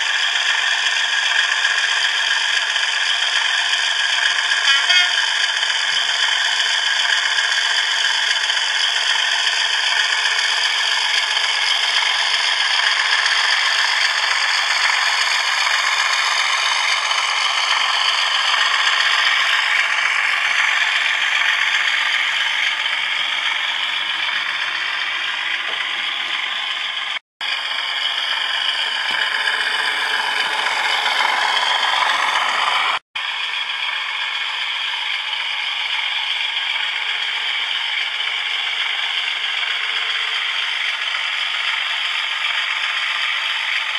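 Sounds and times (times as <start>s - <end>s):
model train motor whirring: 0.0s - 43.9s.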